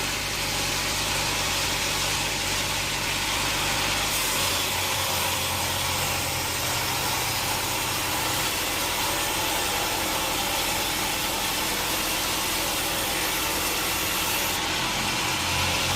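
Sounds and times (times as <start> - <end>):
sawmill machinery running: 0.0 - 15.9.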